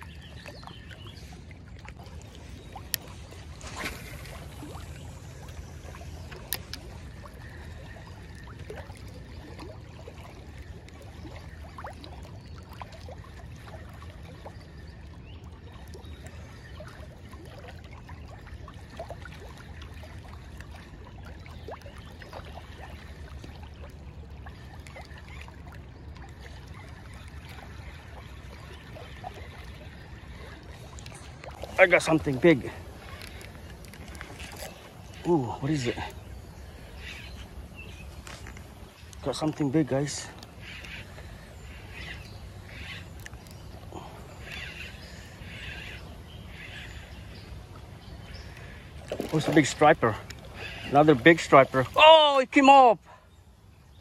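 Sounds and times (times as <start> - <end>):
small waves lapping a boat: 0.0 - 54.0.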